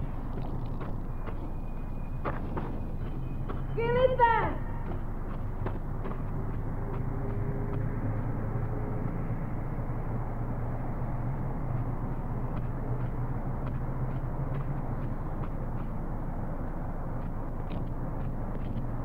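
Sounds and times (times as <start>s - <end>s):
low mechanical rumble and hum: 0.0s - 19.0s.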